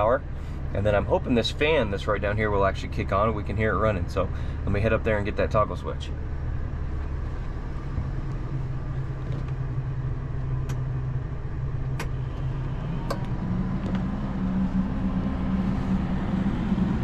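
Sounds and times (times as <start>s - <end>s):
cooling fan humming: 0.0s - 17.0s
engine idling: 0.0s - 17.0s.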